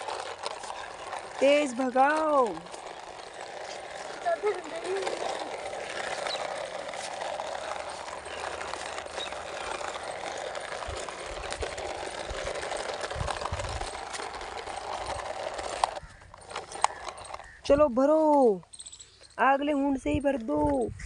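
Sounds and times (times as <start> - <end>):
toy loader scraping over soil: 0.0 - 19.2.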